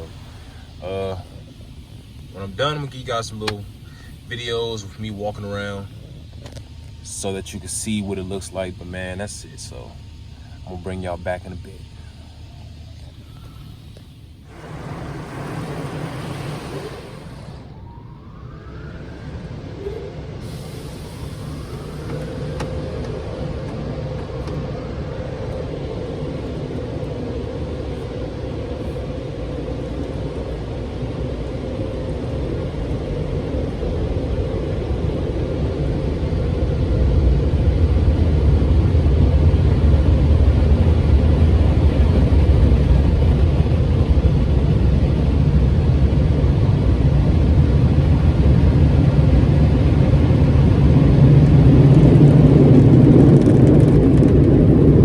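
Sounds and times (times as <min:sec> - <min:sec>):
car wash equipment rushing: 0:00.0 - 0:55.0
faint hum: 0:00.0 - 0:55.0
low rumble: 0:00.0 - 0:55.0.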